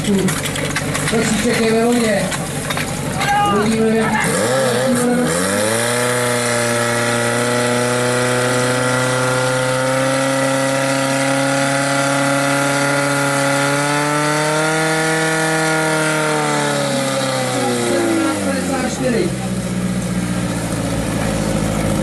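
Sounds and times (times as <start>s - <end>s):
fire pump engine revving: 0.0s - 22.0s.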